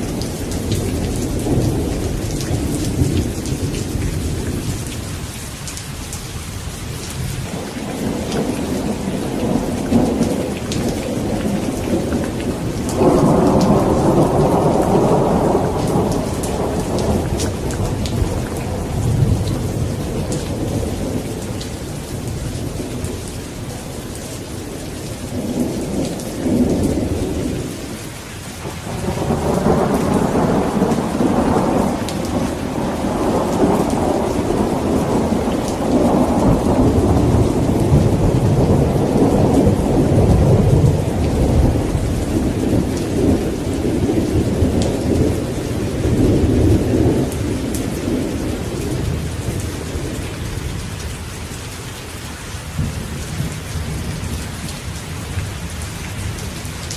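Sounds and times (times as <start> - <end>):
rolling thunder: 0.0 - 5.1, 7.2 - 27.9, 28.6 - 51.0
steady rain: 0.0 - 56.9.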